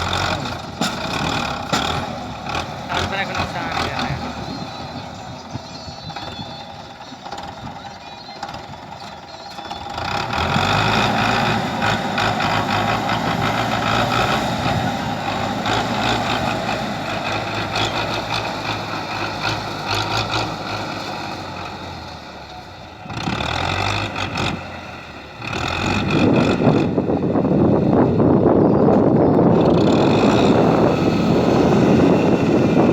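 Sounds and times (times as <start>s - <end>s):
tractor diesel engine: 0.0s - 32.9s.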